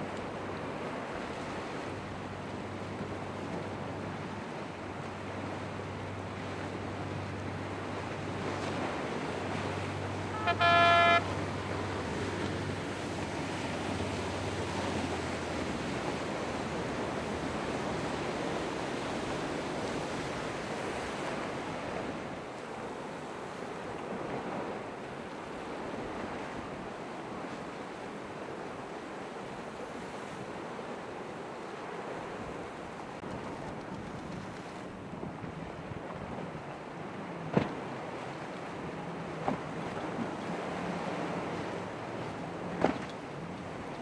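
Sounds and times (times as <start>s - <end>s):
ocean waves and surf: 0.0s - 44.0s.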